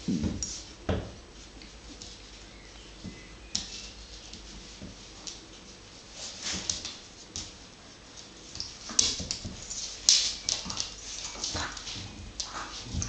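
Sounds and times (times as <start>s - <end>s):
paws scrabbling on wooden floor: 0.1s - 13.0s.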